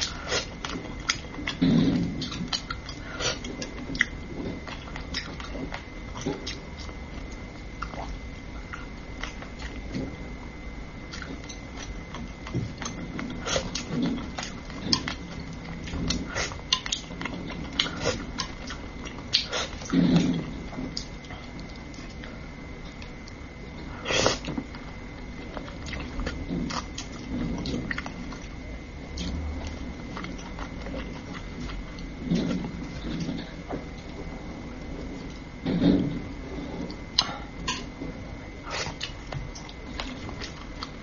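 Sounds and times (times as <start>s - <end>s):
wet chewing: 0.0s - 10.2s, 11.0s - 23.4s, 24.2s - 34.2s, 38.7s - 41.0s.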